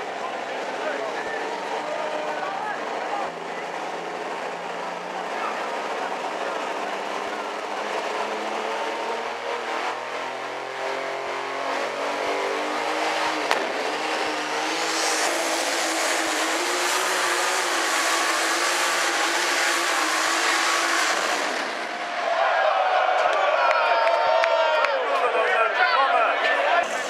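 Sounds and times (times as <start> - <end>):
tractor engine at full throttle: 0.0 - 22.4.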